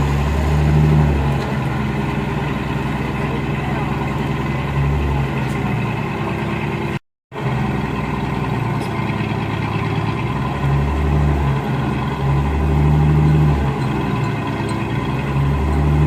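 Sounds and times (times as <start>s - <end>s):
heavy machinery engine humming: 0.0s - 16.0s.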